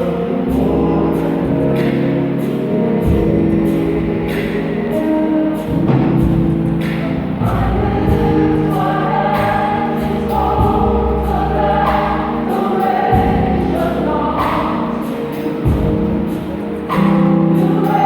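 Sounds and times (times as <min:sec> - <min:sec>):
gospel choir singing: 0:00.0 - 0:18.0
instrumental backing with bass: 0:00.0 - 0:18.0.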